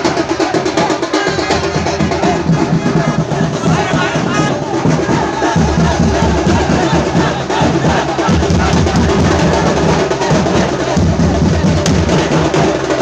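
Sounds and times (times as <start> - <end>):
drum band drumming: 0.0 - 13.0
bass drum beating low: 1.4 - 13.0.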